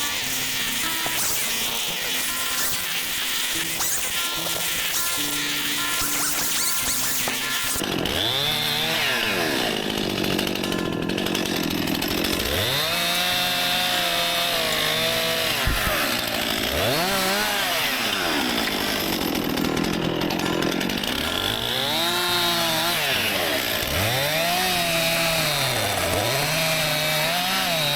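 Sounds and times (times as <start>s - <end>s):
chainsaw cutting into tree: 0.0s - 27.9s.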